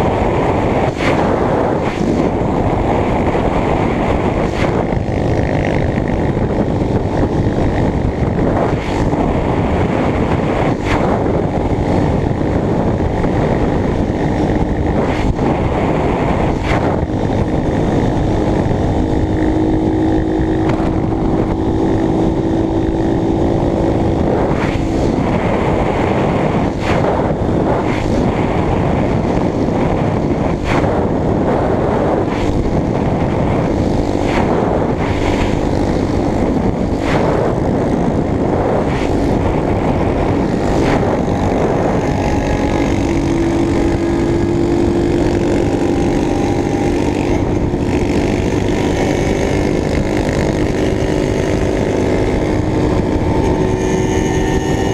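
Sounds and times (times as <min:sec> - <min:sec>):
motorcycle engine cruising: 0:00.0 - 0:54.9
wind noise on microphone: 0:00.0 - 0:54.9.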